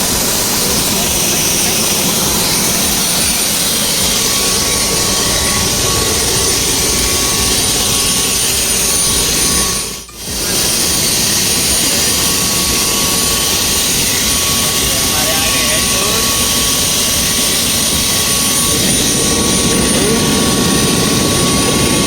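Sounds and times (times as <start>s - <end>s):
helicopter turbine engine running: 0.0s - 22.0s.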